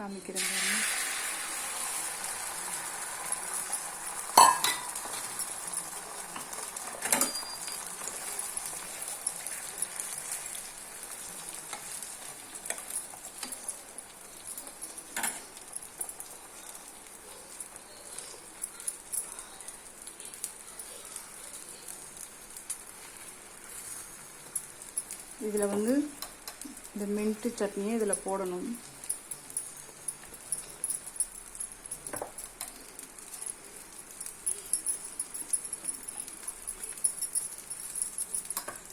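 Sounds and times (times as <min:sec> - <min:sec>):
eggs sizzling on a hot pan: 0:00.0 - 0:38.9.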